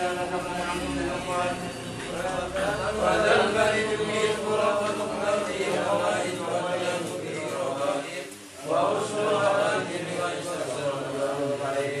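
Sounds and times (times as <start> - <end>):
melodic devotional chanting: 0.0 - 12.0.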